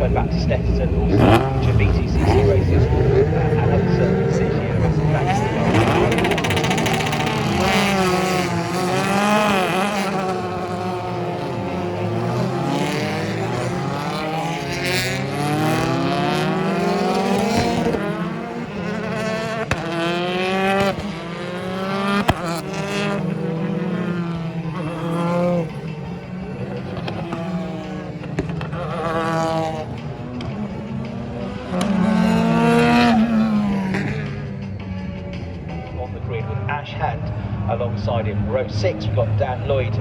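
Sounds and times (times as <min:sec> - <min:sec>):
racing car engines passing: 0:00.0 - 0:40.0.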